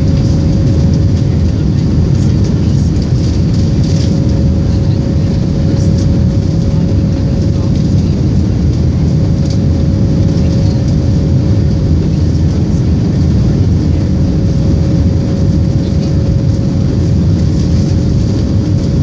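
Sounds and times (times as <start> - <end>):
constant steady hum: 0.0 - 19.0
jet engine rumble: 0.0 - 19.0.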